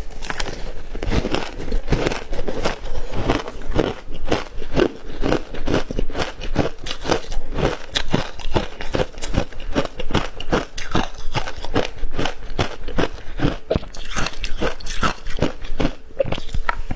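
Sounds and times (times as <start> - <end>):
ice crunching being chewed: 0.0 - 16.9.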